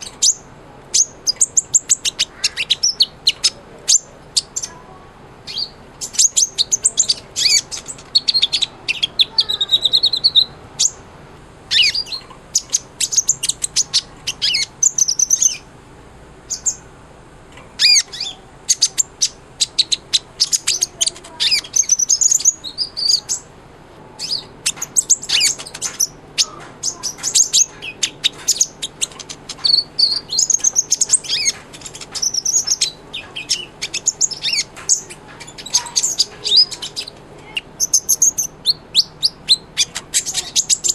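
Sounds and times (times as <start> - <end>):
bird singing high chirps: 0.0 - 4.8, 5.4 - 11.1, 11.7 - 15.7, 16.5 - 16.9, 17.8 - 23.5, 24.2 - 40.9.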